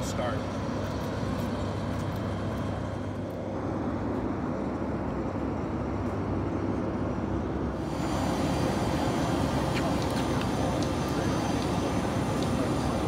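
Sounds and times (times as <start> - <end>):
propeller airplane engine: 0.0 - 13.0.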